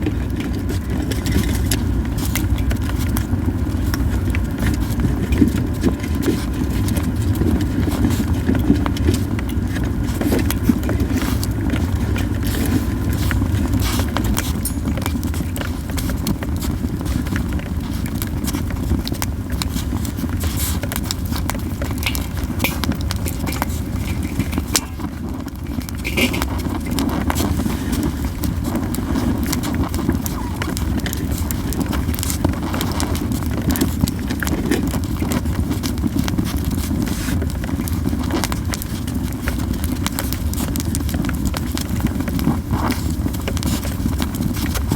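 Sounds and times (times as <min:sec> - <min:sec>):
campfire crackling and popping: 0:00.0 - 0:44.9
low fire rumble: 0:00.0 - 0:44.9.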